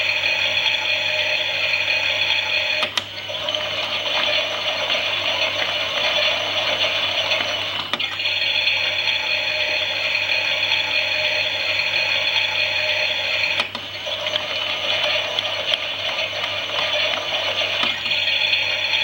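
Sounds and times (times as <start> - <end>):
toy washing machine running: 0.0 - 19.0.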